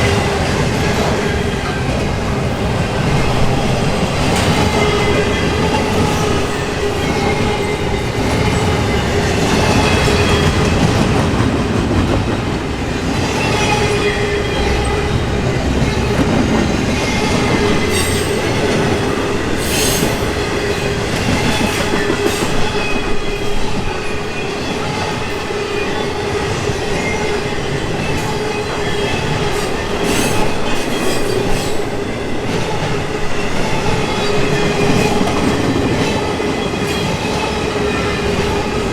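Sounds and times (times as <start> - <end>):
wheels squealing against rail: 0.0 - 11.0, 13.1 - 38.9
train wheels rumbling on rails: 0.0 - 38.9.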